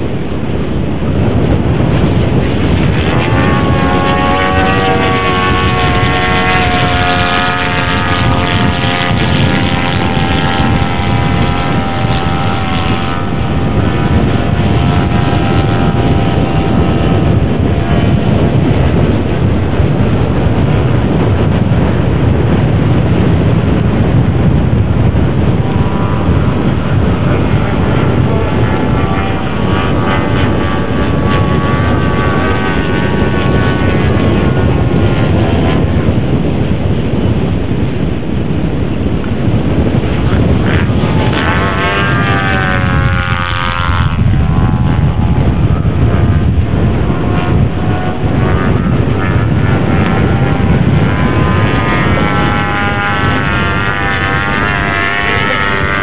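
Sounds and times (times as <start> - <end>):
model aircraft engine buzzing: 0.0 - 56.0
steady rushing noise: 0.0 - 56.0.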